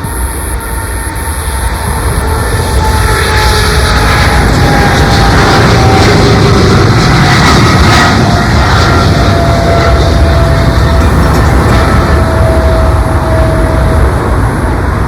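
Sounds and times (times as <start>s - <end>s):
airliner flying past: 0.0s - 15.0s.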